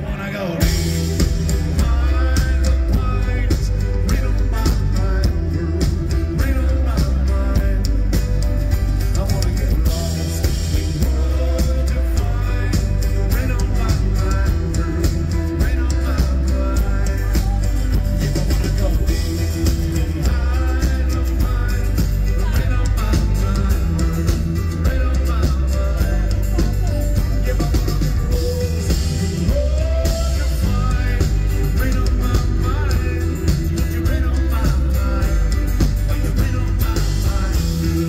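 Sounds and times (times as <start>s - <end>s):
live country-rock band: 0.0s - 38.0s.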